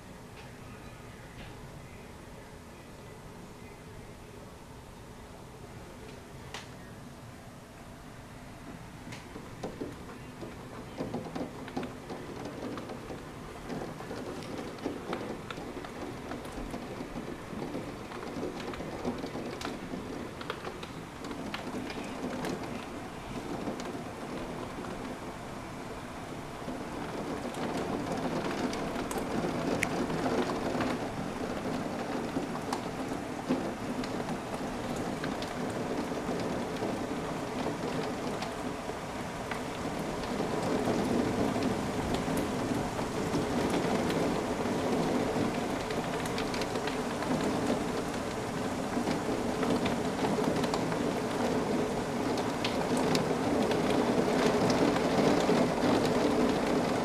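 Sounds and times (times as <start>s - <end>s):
heavy rain falling: 7.6s - 57.0s
raindrops ticking on window glass: 9.1s - 57.0s.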